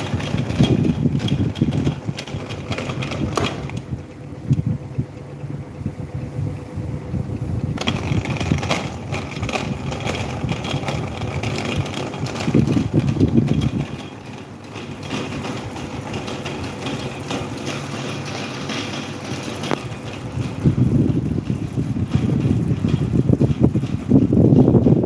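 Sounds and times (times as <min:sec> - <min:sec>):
electric fan motor hum: 0:00.0 - 0:25.0
fan airflow buffeting microphone: 0:00.0 - 0:25.0.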